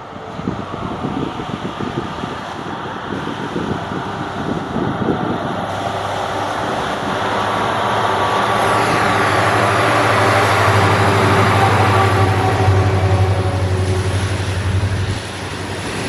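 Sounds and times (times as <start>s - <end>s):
locomotive engine drone: 0.0s - 16.0s
rail noise: 0.0s - 16.0s.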